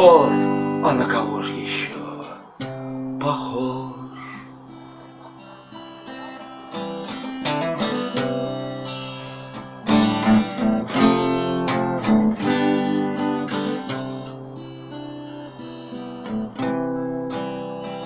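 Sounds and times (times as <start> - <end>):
guitar chords strummed: 0.0 - 18.0
guitar picked notes: 0.0 - 18.0.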